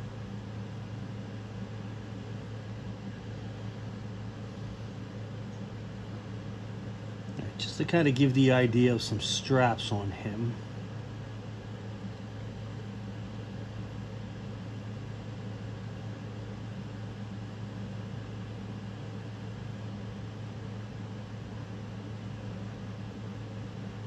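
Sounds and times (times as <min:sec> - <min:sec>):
room hum with light hiss: 0:00.0 - 0:24.0.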